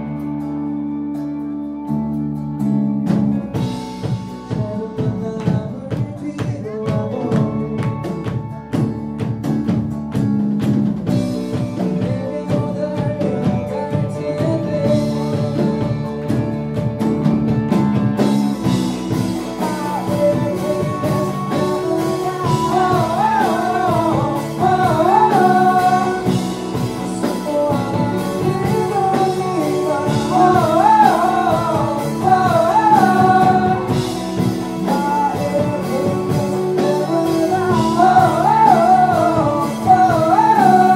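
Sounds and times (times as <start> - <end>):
live rock band playing: 0.0 - 40.9
drums with cymbals: 3.1 - 40.9
person singing lead vocal: 3.5 - 8.9, 11.4 - 16.7, 18.6 - 40.9.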